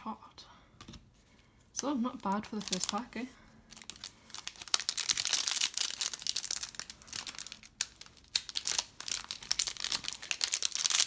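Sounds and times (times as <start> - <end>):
plastic foil wrapper crinkling: 1.9 - 11.0.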